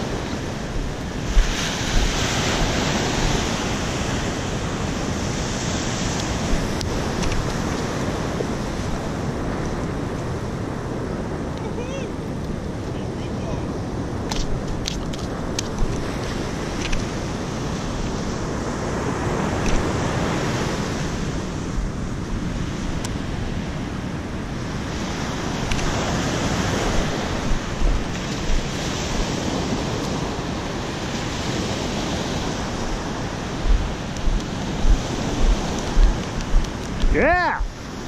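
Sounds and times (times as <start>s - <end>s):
surf breaking on beach: 0.0s - 38.0s
wind on microphone: 0.0s - 38.0s.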